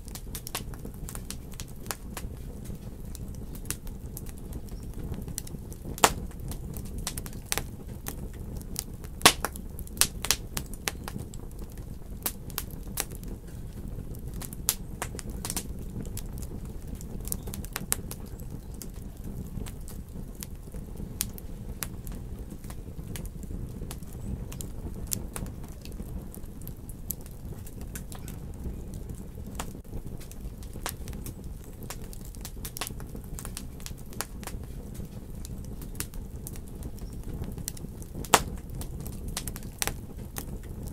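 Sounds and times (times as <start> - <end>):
low rumble of burning: 0.0 - 40.9
wood fire crackling and popping: 0.0 - 40.9.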